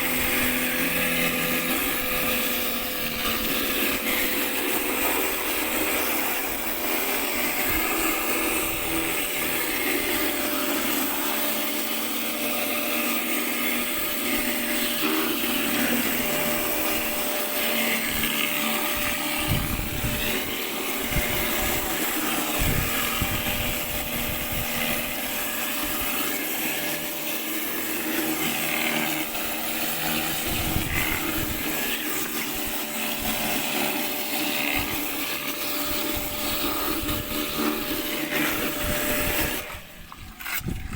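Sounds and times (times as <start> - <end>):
pressure washer spraying: 0.0 - 40.9.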